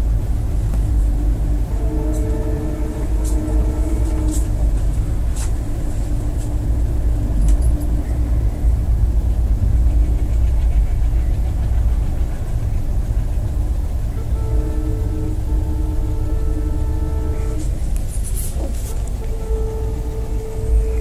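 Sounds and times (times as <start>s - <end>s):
train coach rumbling on track: 0.0s - 21.0s.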